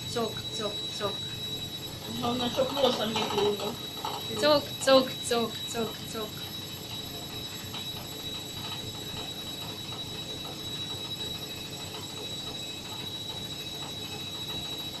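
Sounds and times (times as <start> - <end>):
high-pitched whine: 0.0 - 15.0
washing machine rumble: 0.0 - 15.0.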